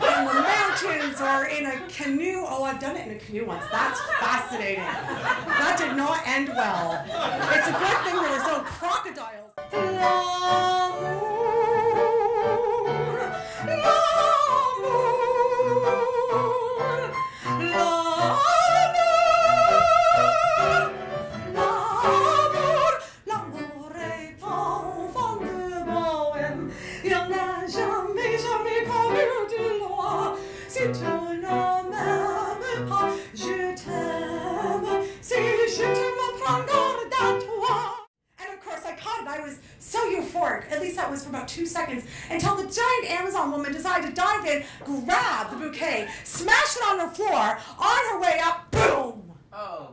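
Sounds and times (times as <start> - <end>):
woman singing show tune: 0.0 - 20.9, 21.6 - 49.2.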